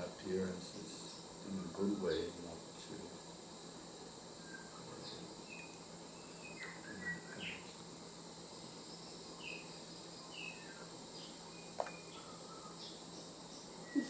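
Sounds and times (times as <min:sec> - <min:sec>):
faint high hiss: 0:00.0 - 0:14.0
small birds chirping: 0:00.0 - 0:14.0.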